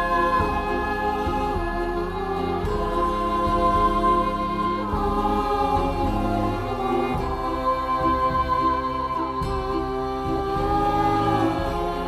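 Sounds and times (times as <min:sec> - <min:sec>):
steady chords: 0:00.0 - 0:12.0.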